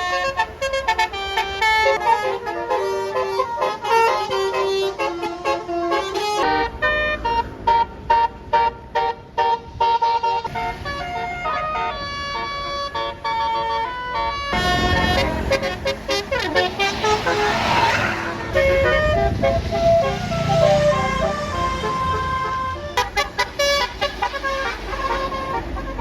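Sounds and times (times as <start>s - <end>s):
bus engine and road noise: 0.0s - 26.0s
multi-tone horn playing a tune: 0.0s - 26.0s.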